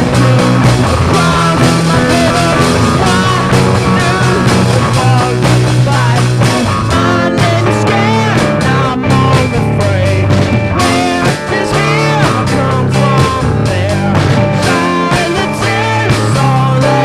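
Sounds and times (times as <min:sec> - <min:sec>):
bass notes: 0:00.0 - 0:17.0
drum beat: 0:00.0 - 0:17.0.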